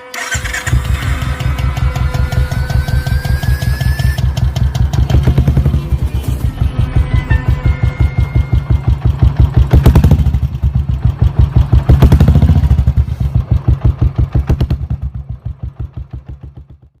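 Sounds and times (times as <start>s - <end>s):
motorcycle engine idling and blipping: 0.1s - 17.0s.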